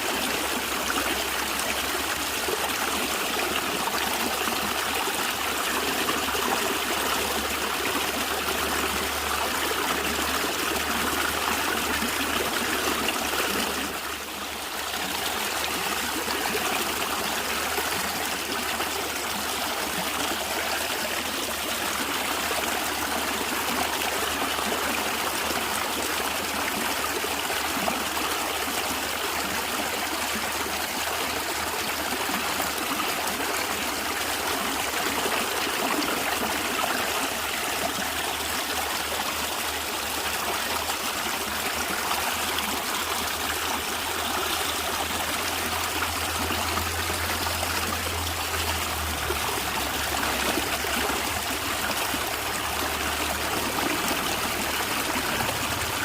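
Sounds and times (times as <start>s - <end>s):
stream gurgling and trickling: 0.0s - 56.0s.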